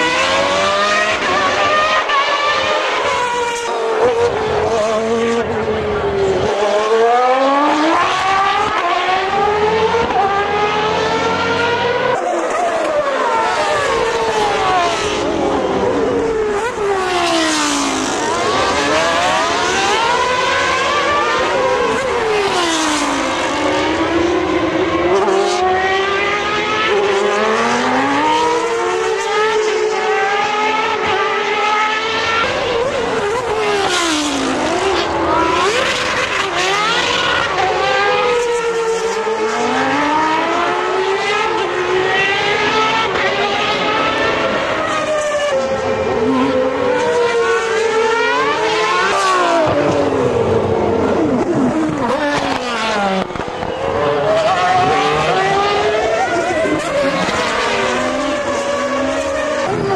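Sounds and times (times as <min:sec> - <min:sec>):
racing cars passing at high revs: 0:00.0 - 0:59.9.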